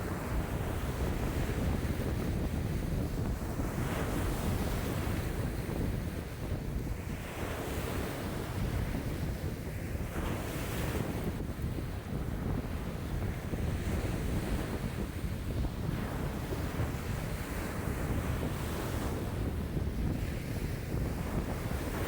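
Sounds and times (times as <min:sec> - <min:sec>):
waves breaking ashore: 0:00.0 - 0:22.0
wind rumble on microphone: 0:00.0 - 0:22.0.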